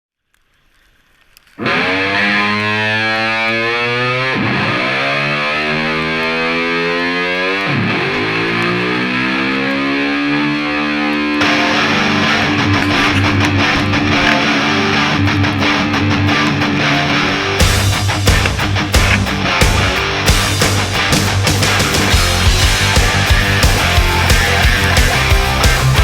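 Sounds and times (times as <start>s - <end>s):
distorted electric guitar: 1.5s - 26.0s.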